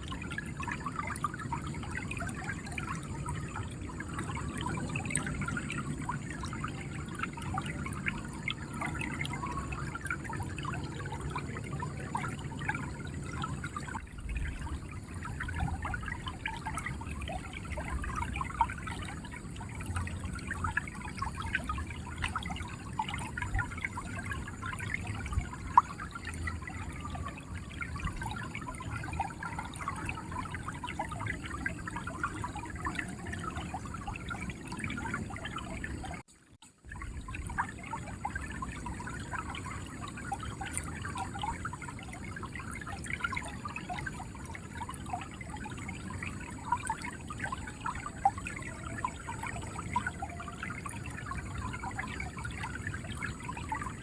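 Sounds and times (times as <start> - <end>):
river water gurgling: 0.0 - 54.0.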